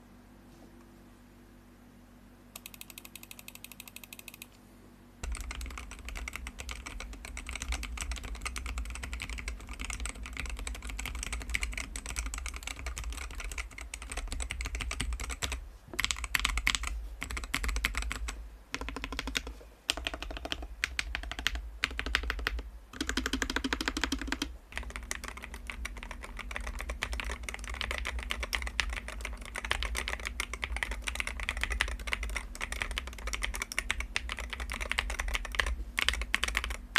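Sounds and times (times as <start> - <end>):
mechanical keyboard typing: 2.6 - 4.6, 5.2 - 36.9.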